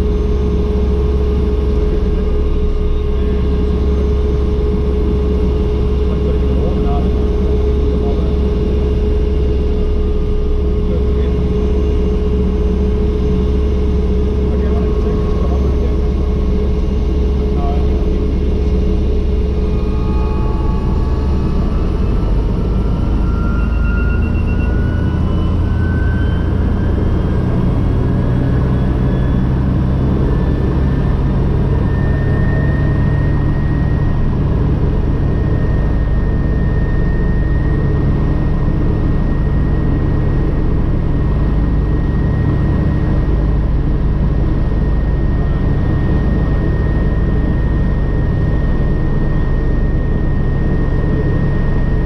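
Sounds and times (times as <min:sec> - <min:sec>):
helicopter engine whine: 0:00.0 - 0:52.0
low rumble: 0:00.0 - 0:52.0.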